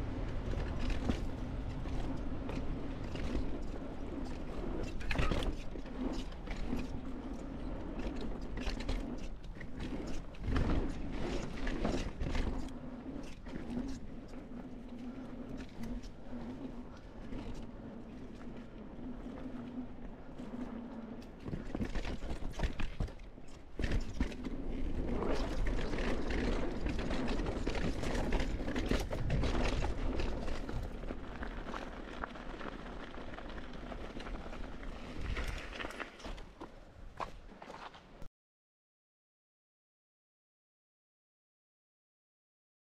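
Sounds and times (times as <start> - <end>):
wind rumbling on microphone: 0.0 - 38.2
bike tyres rolling over dirt: 0.0 - 38.3.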